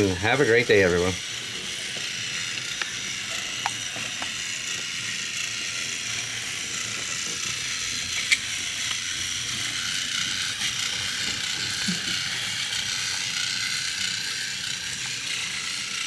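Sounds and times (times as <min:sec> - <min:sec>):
toy train motor whirring: 0:00.0 - 0:16.0.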